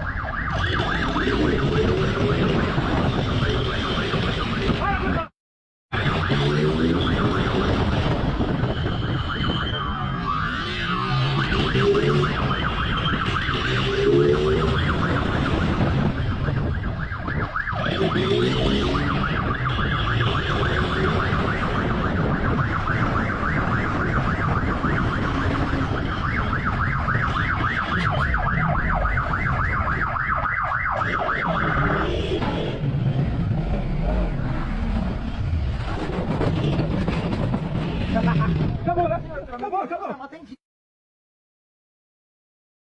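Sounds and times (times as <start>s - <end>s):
police siren warbling: 0.0s - 5.3s, 5.9s - 35.6s.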